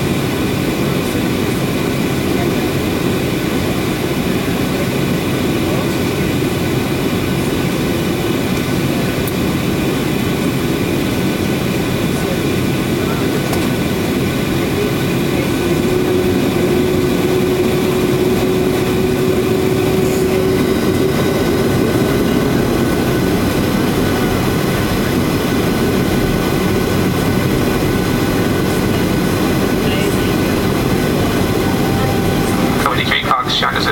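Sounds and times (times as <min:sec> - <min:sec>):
jet engine and airflow drone: 0:00.0 - 0:33.9.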